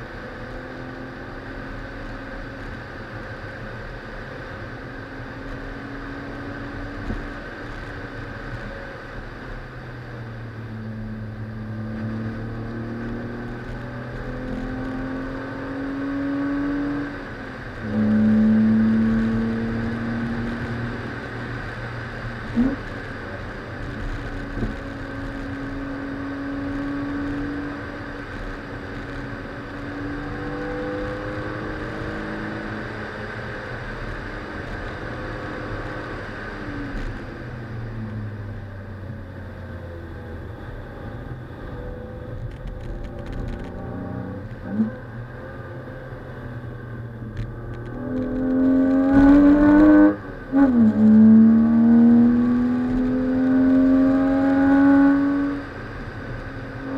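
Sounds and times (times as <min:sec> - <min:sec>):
road and tyre noise: 0:00.0 - 0:56.9
car engine accelerating: 0:10.2 - 0:56.9.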